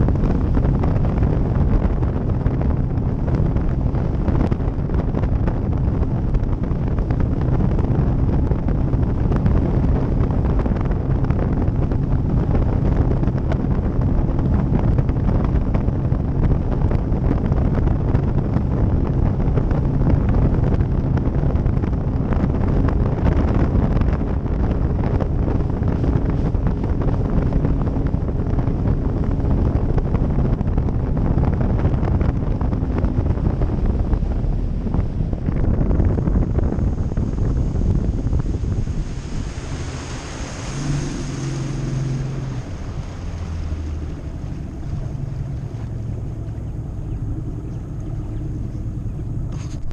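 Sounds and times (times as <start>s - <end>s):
hull rushing over water: 0.0s - 49.9s
outboard motor drone: 0.0s - 49.9s
wind buffeting microphone: 0.0s - 49.9s.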